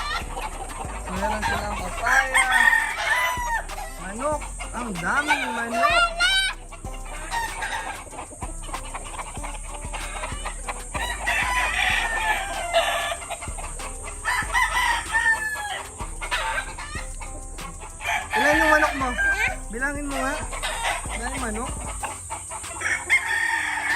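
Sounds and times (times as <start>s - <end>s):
chickens clucking: 0.0s - 23.9s
roosters crowing: 0.0s - 23.9s.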